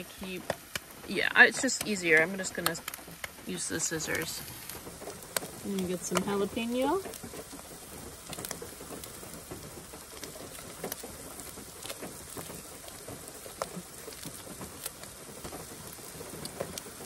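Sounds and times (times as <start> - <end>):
rain on a car roof: 0.0 - 17.0.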